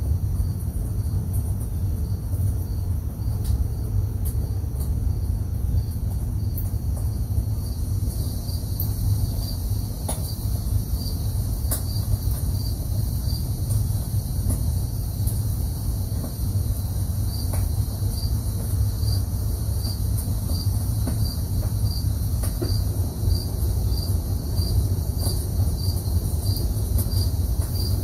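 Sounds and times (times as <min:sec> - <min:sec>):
insects chirping and trilling: 0:00.0 - 0:28.0
loud steady low rumble: 0:00.0 - 0:28.0.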